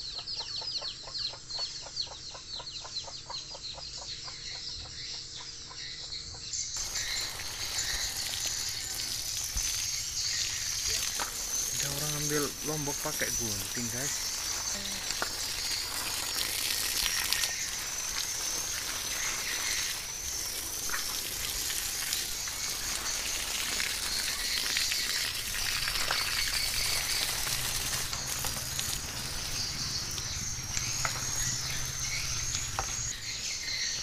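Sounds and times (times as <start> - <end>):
insects singing: 1.8 - 34.0.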